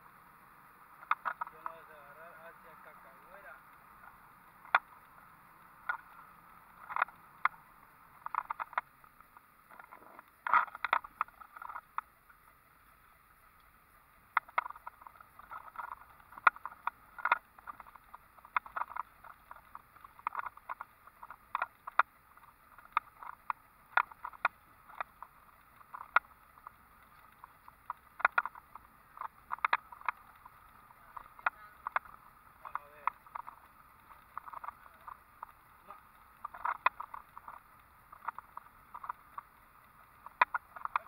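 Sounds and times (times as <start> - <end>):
faint hiss: 0.0 - 41.0.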